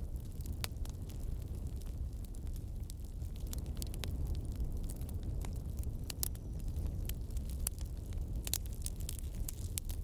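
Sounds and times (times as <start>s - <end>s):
wood bonfire crackling: 0.0s - 10.0s.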